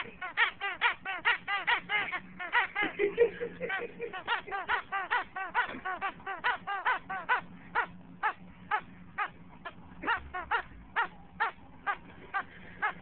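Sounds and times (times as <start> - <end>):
squeaky toy squeaking: 0.0 - 2.9, 4.1 - 13.0.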